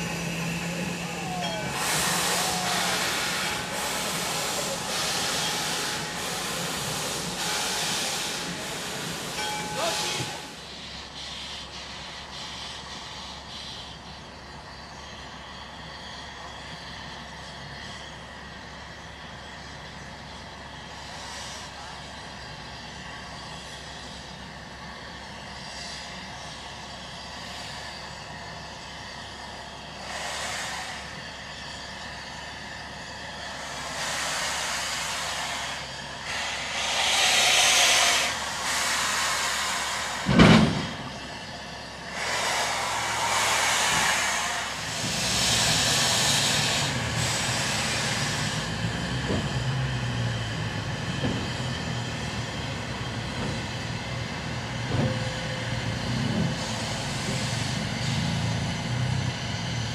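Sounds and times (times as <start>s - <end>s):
steam locomotive hissing blasts: 0.0s - 59.9s.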